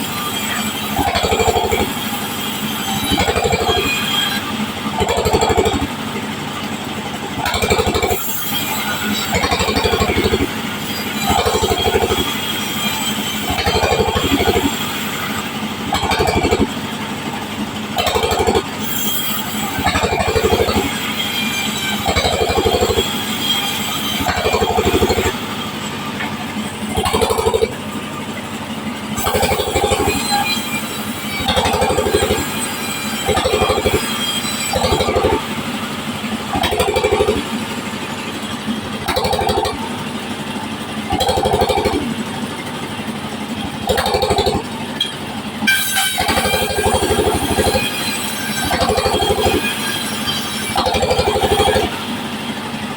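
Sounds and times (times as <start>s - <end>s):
power saw cutting wood: 0.0s - 52.9s.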